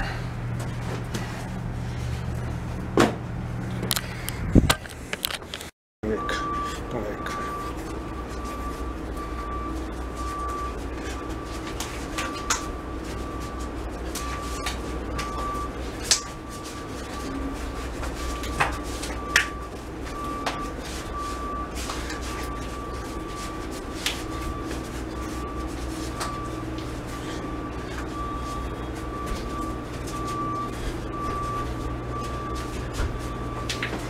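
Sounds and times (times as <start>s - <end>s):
low room hum: 0.0s - 34.0s
faint wavering whine: 6.0s - 34.0s.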